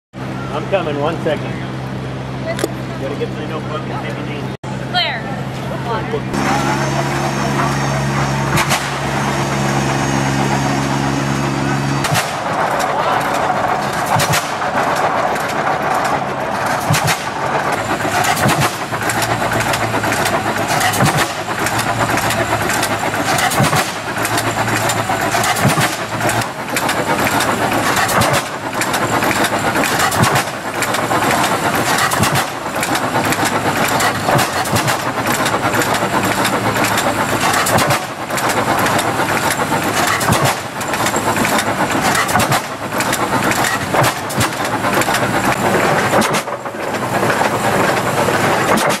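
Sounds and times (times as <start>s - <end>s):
tractor engine running: 0.2s - 49.0s.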